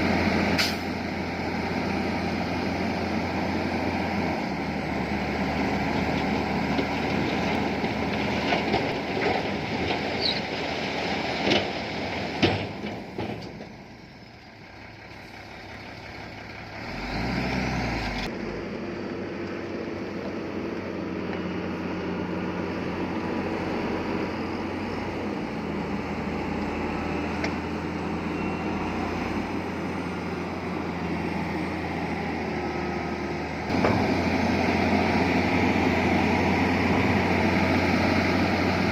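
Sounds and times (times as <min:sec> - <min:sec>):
heavy diesel machinery: 0:00.0 - 0:38.9.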